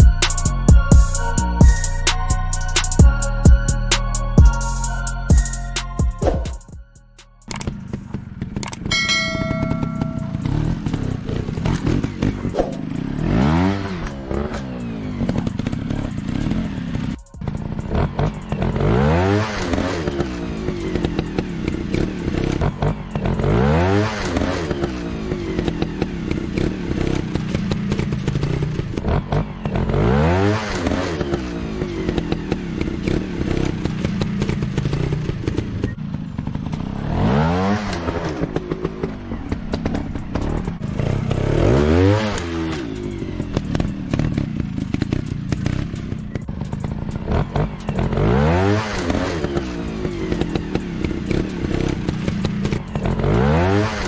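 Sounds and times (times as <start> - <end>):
dirt bike engine revving: 7.6 - 54.0.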